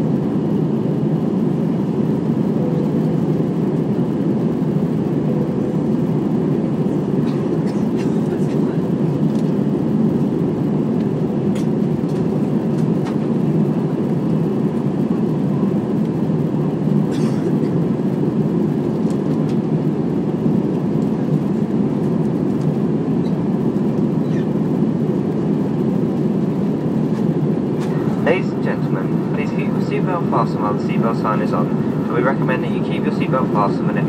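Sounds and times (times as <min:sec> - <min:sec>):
airplane cabin engine and airflow noise: 0:00.0 - 0:34.0.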